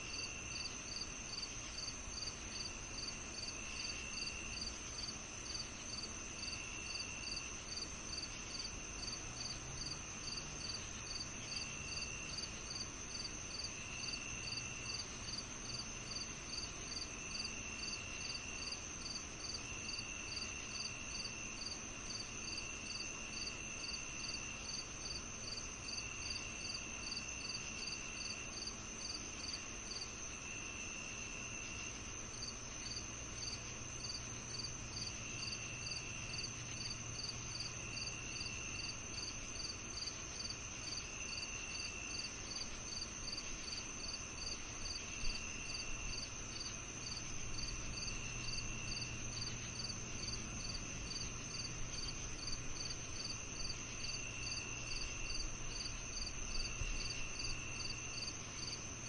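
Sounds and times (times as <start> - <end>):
lower insect trill: 0.0 - 59.0
regular cricket chirp: 0.0 - 59.0
steady high insect trill: 0.0 - 59.0.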